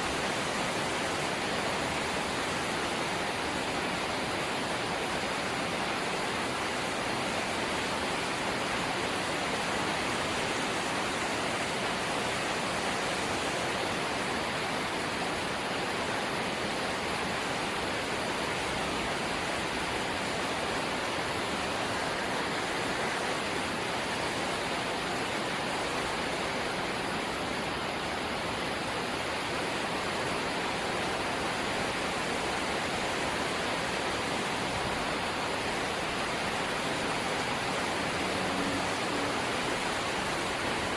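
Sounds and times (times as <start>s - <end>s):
light rain hissing: 0.0s - 40.9s.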